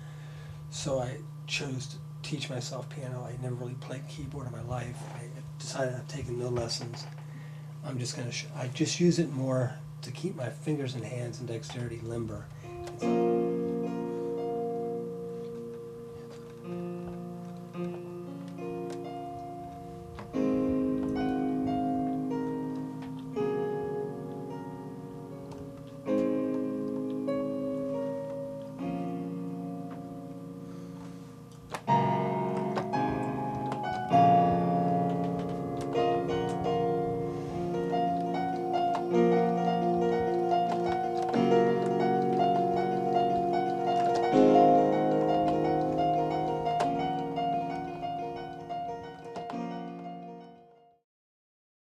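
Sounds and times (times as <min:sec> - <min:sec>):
electronic keyboard chords: 0:07.8 - 0:51.0.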